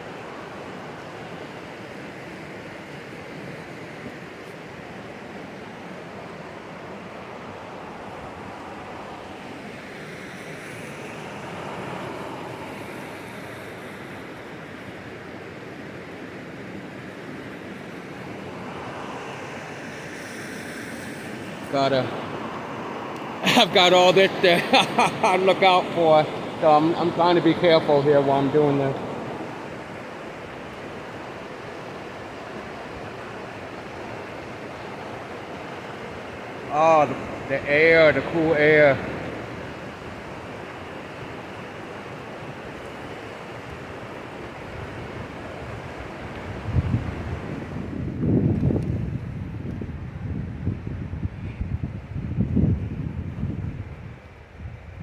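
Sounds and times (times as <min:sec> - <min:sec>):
rough fast-moving water: 0:00.0 - 0:55.0
high wind rushing: 0:06.4 - 0:15.2, 0:16.8 - 0:55.0.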